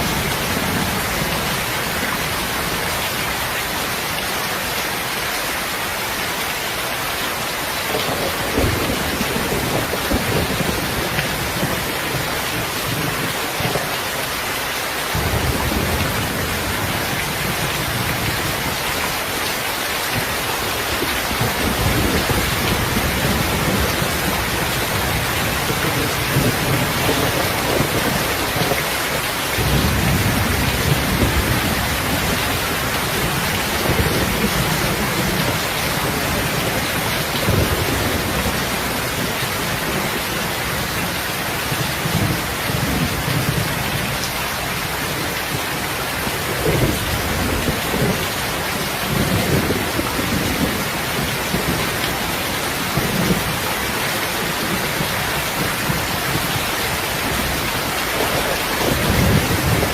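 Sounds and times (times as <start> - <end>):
steady rain hiss: 0.0 - 59.9
deep rolling thunder rumbles: 7.9 - 14.0, 15.1 - 19.2, 20.1 - 59.9.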